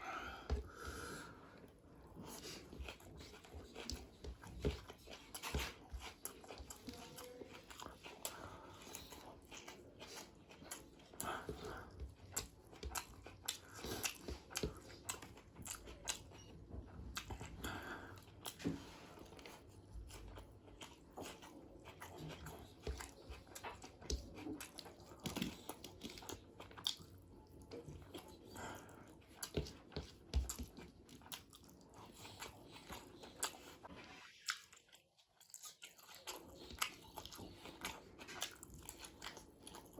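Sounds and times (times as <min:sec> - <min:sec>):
biting and chewing food: 0:01.6 - 0:39.9.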